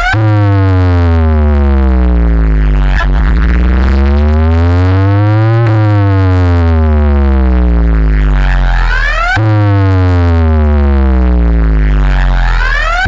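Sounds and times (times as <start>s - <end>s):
electronic pitch-sweep effect: 0.0s - 13.0s
heavy bass: 0.0s - 13.0s.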